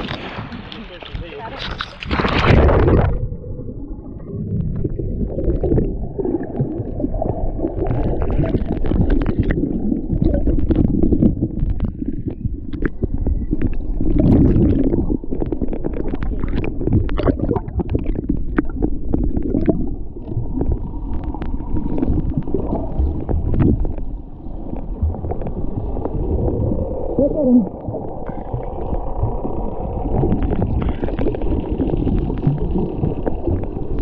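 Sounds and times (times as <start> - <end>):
underwater gurgling of churned water: 0.0 - 34.0.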